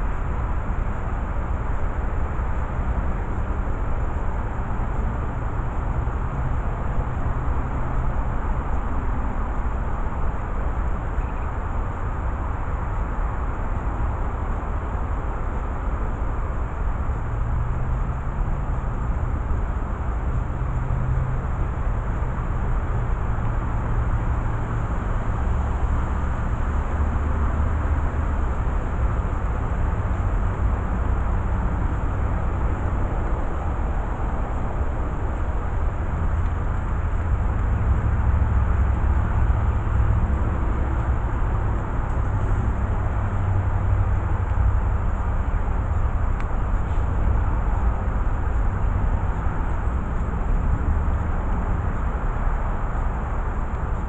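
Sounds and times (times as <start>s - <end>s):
deep outdoor rumble: 0.0s - 54.0s
even noise haze: 0.0s - 54.0s.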